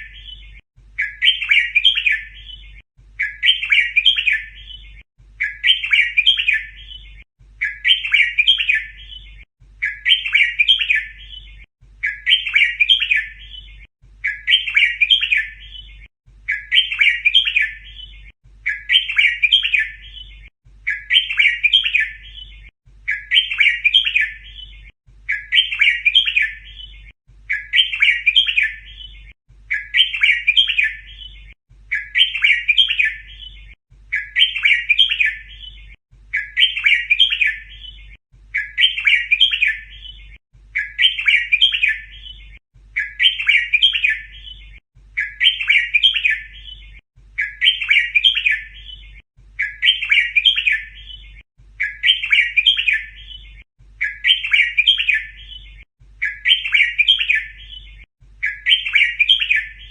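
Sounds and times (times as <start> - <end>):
bird chirping song phrase: 0.0 - 59.9.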